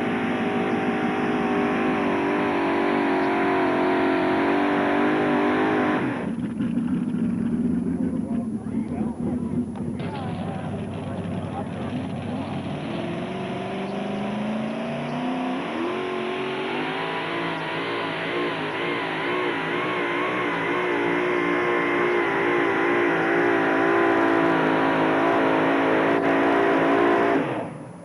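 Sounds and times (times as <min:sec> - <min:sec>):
tractor engine at full throttle: 0:00.0 - 0:28.0.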